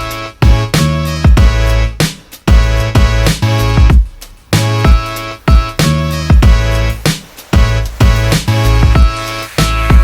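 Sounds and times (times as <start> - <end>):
electronic music with heavy kick drum: 0.0 - 10.0.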